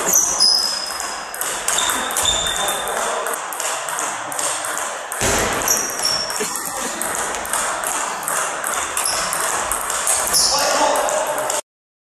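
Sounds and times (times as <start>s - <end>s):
table tennis ball ticking: 0.1s - 11.6s.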